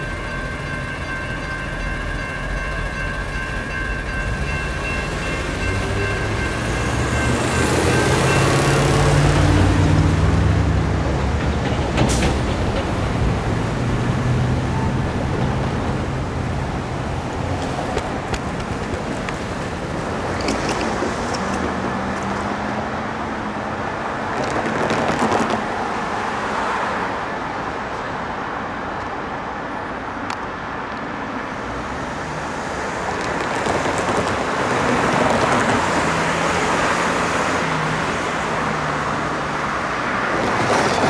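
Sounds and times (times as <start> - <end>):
passing cars traffic noise: 0.0 - 41.0.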